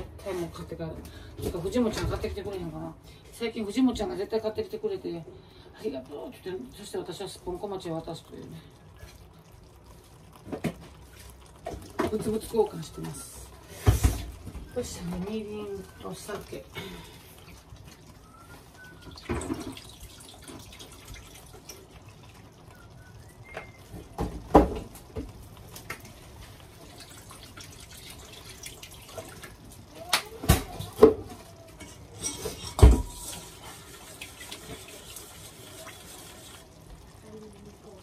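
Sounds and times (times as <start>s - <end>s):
liquid pouring into pot: 4.7s - 38.0s.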